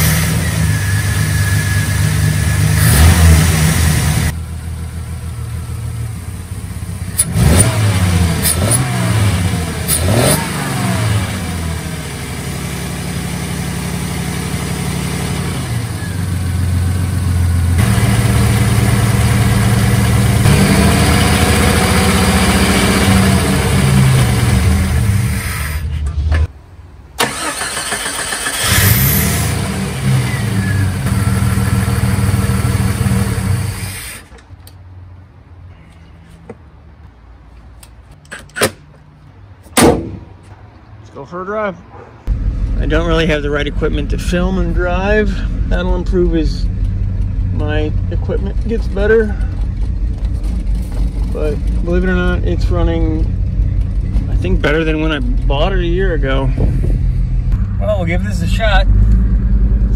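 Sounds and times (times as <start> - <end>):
car engine revving: 0.0 - 6.0, 6.6 - 26.5, 27.2 - 33.9, 42.3 - 59.9.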